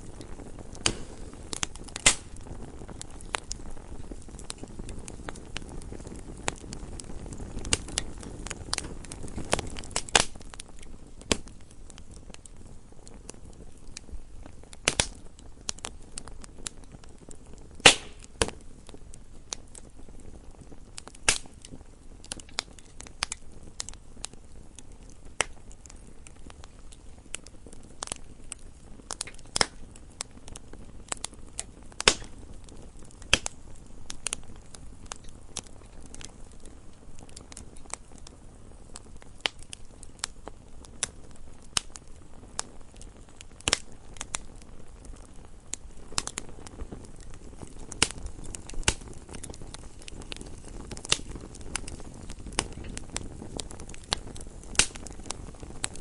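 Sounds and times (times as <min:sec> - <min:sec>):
fire crackling and popping: 0:00.0 - 0:56.0
flames hissing: 0:00.0 - 0:56.0.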